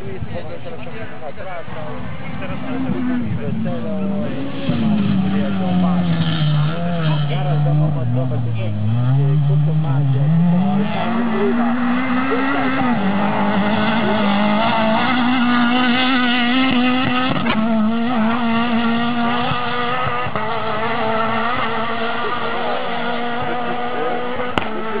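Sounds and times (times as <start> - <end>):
rally car engine at high revs: 2.0 - 25.0.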